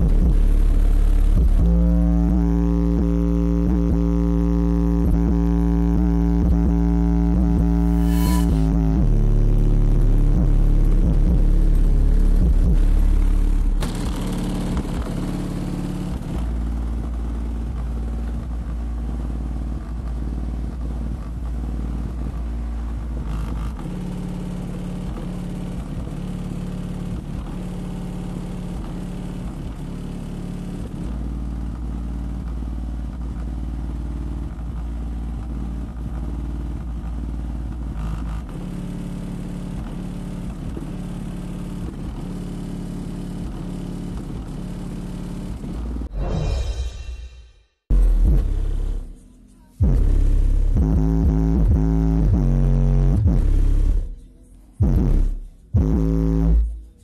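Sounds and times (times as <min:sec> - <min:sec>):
bass-heavy music through subwoofers: 0:00.0 - 0:57.0.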